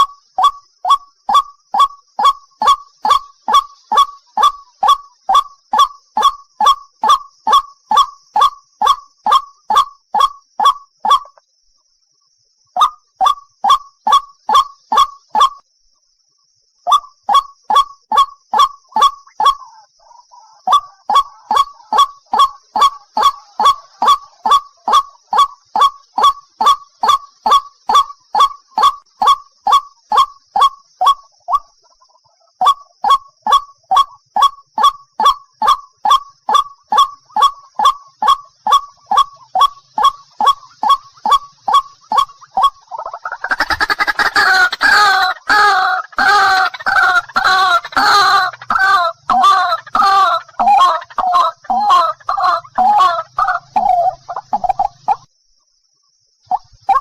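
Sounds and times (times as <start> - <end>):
waterhen calling: 0.0 - 11.4, 12.8 - 15.6, 16.9 - 55.3, 56.5 - 57.0
faint overlapping bird call: 0.0 - 57.0.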